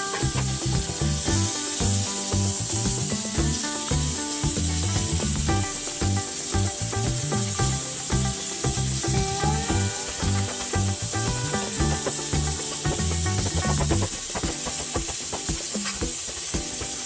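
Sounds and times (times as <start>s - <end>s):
light background music: 0.0s - 17.0s.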